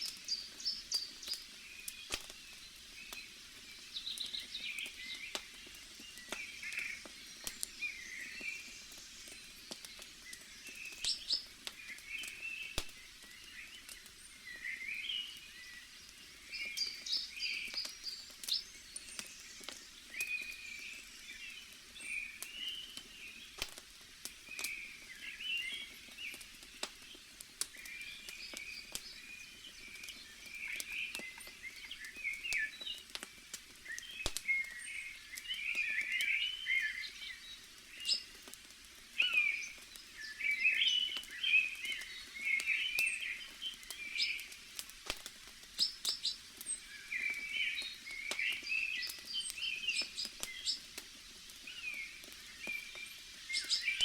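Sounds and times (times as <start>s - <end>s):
small birds chirping: 0.0s - 54.0s
wood fire crackling and popping: 0.0s - 54.0s.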